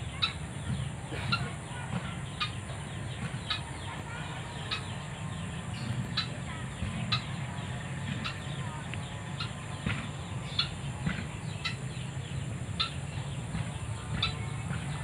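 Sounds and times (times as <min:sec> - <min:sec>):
waterhen clucking: 0:00.0 - 0:15.0.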